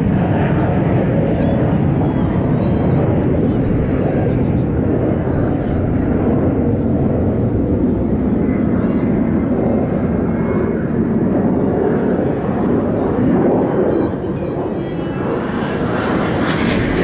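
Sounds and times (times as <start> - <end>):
jet roar: 0.0 - 17.0.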